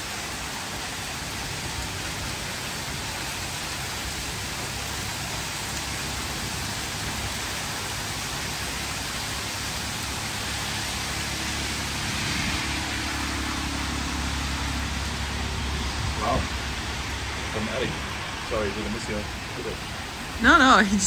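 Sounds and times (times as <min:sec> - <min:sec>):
car rumbling on wet road: 0:00.0 - 0:21.0
heavy rain pouring: 0:00.0 - 0:21.0.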